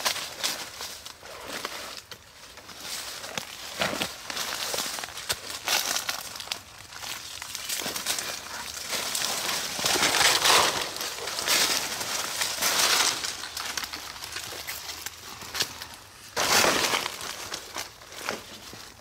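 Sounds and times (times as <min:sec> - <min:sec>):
undergrowth rustling and crackling: 0:00.0 - 0:19.0.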